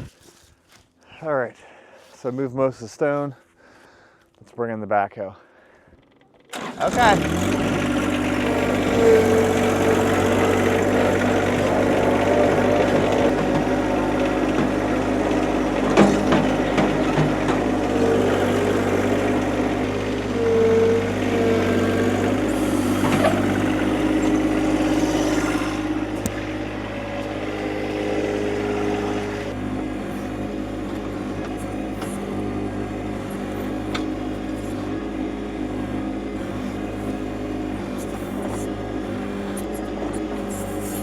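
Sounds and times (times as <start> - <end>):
diesel tractor engine running: 6.0 - 41.0
hydraulic whine: 6.0 - 41.0.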